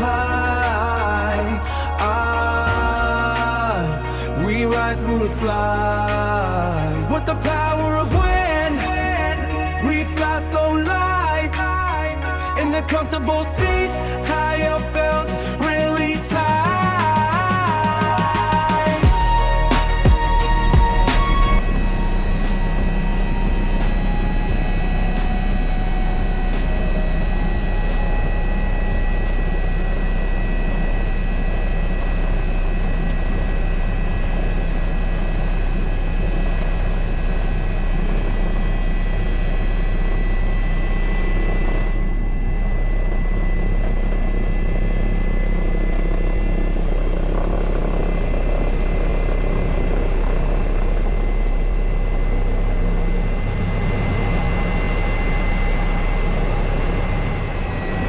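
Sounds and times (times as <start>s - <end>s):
helicopter engine and rotor drone: 0.0s - 58.0s
high-pitched whine: 0.0s - 58.0s.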